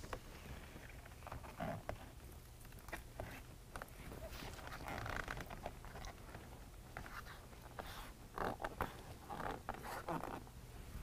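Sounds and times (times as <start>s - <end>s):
faint rubbing and scraping of plastic: 0.0s - 11.0s.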